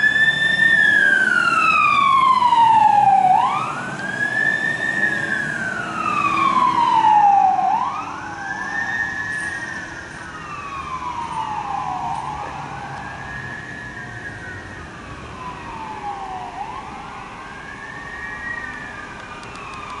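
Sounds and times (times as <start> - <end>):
faint second siren: 0.0 - 20.0
siren wailing: 0.0 - 20.0.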